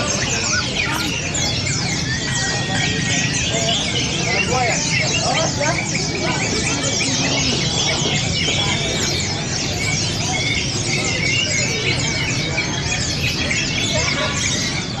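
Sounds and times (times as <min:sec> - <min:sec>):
songbirds chorus chirping and trilling: 0:00.0 - 0:15.0.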